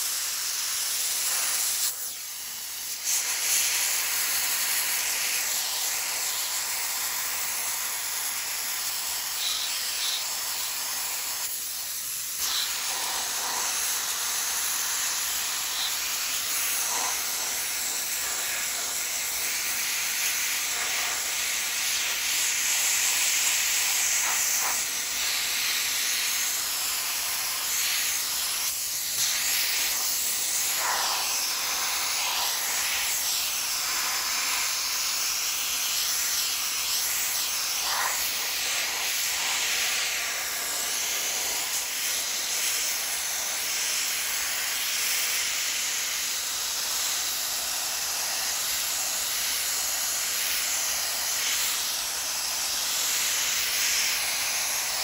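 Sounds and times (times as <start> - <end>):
sandblaster hissing: 0.0 - 55.0.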